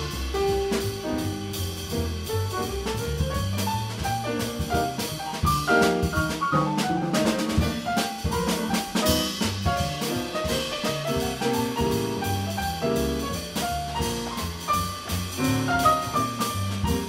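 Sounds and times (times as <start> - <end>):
drums and cymbals: 0.0 - 17.0
grand piano chords and runs: 0.0 - 17.0
walking double bass: 0.0 - 17.0.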